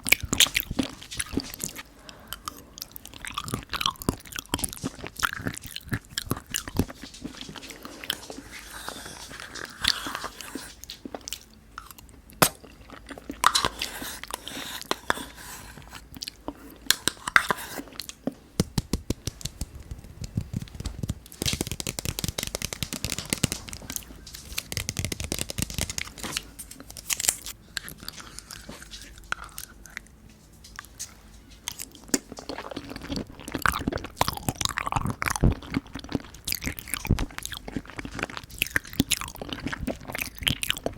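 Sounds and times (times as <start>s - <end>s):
chewing and wet mouth sounds: 0.0s - 40.9s.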